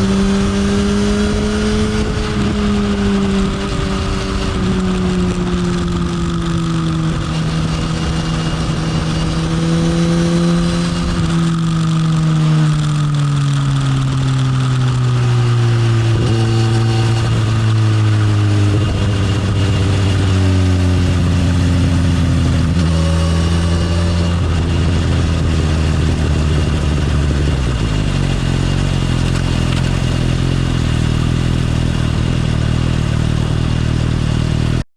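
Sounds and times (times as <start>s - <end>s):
motorcycle engine slowing to idle: 2.6s - 9.5s, 11.1s - 34.8s.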